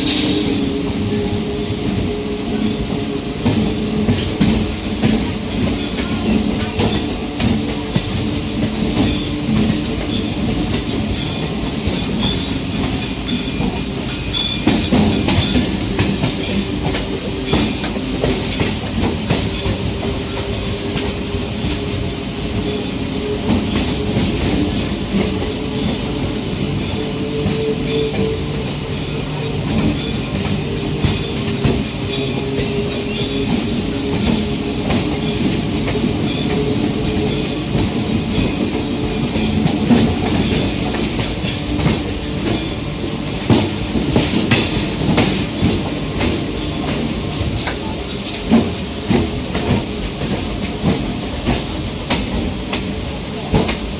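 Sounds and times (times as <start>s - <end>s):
train rumbling along track: 0.0s - 53.9s
wheels clattering on rails: 0.0s - 53.9s.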